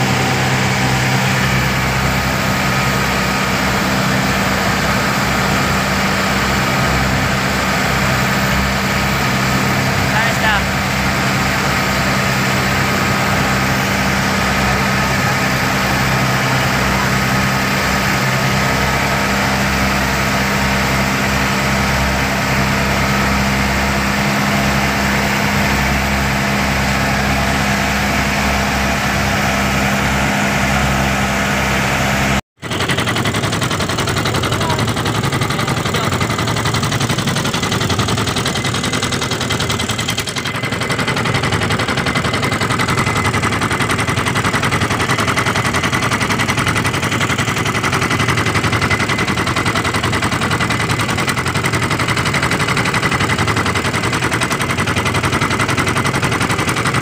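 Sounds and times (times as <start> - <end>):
boat engine running: 0.0 - 57.0
water rushing along hull: 0.0 - 57.0.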